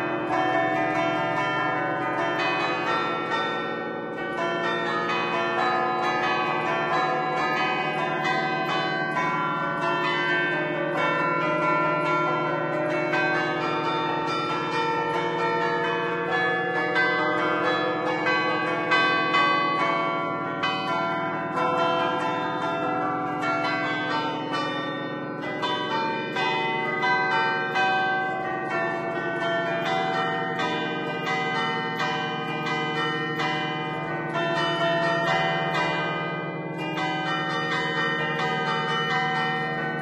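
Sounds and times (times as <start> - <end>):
church bells ringing a tune: 0.0 - 40.0.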